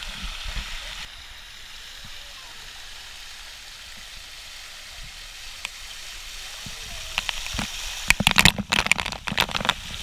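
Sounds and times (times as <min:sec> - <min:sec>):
fountain water splashing into pool: 0:00.0 - 0:10.0.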